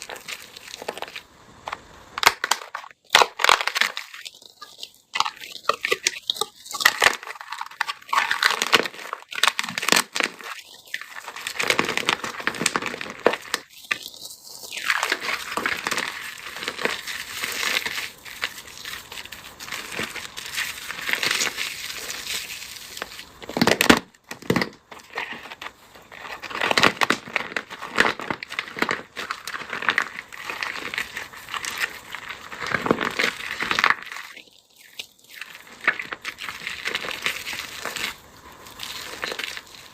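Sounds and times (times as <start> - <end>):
brittle material crackling and crunching: 0.0 - 39.9.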